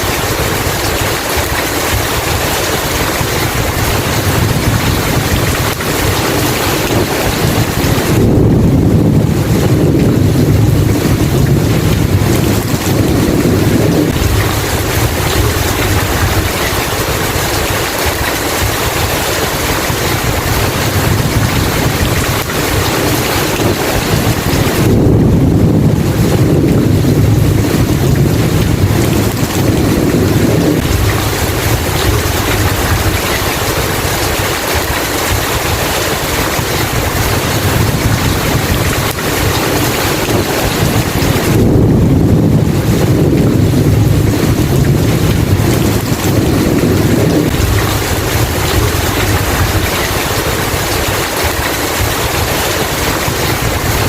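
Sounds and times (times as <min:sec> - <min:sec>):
heavy rain: 0:00.0 - 0:54.0
low rolling thunder: 0:00.0 - 0:54.0.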